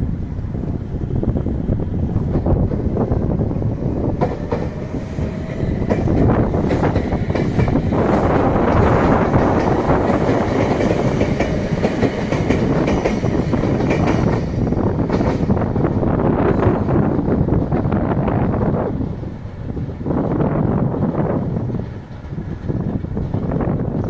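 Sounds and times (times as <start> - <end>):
train wheels clattering on rails: 2.0 - 24.0.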